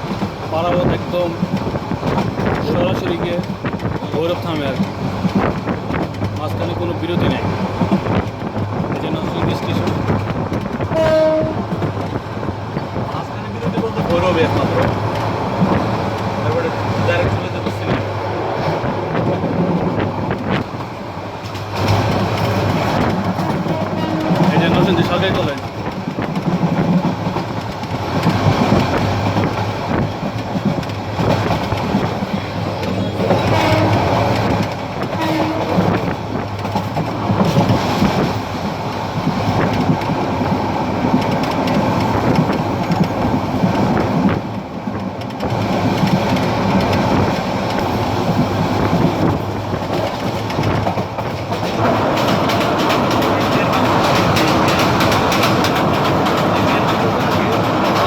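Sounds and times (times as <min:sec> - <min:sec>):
clatter over rail joints: 0:00.0 - 0:58.0
train wheels rumbling on rails: 0:00.0 - 0:58.0.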